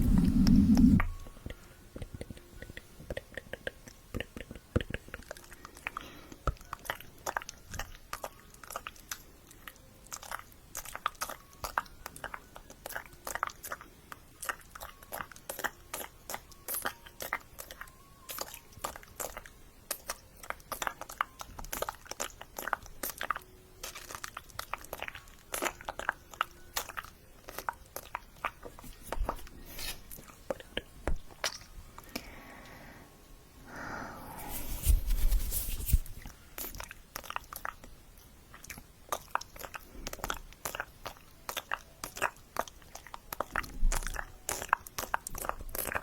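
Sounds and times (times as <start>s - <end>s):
tongue and lip clicks and smacks: 0.1s - 29.4s, 30.2s - 32.3s, 36.2s - 46.0s.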